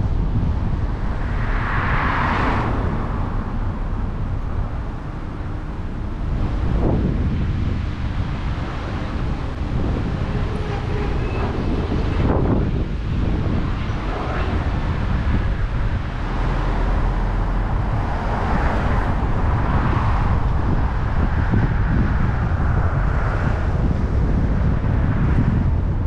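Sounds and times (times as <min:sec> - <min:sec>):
car road and engine rumble: 0:00.0 - 0:26.0
wind on microphone: 0:00.0 - 0:26.0.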